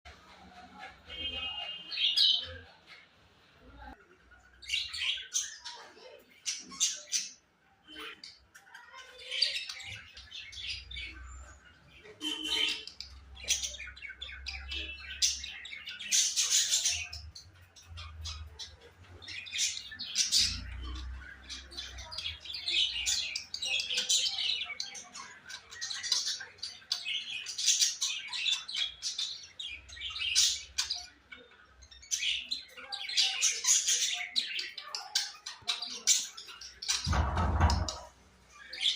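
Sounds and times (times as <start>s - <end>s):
small birds chirping and squawking: 0.1s - 38.9s.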